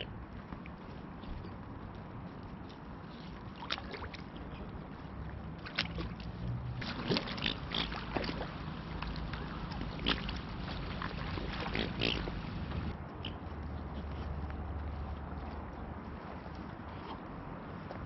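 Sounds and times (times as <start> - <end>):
water splashing and sloshing: 0.0 - 18.0
small splashes and clicks: 0.5 - 18.0.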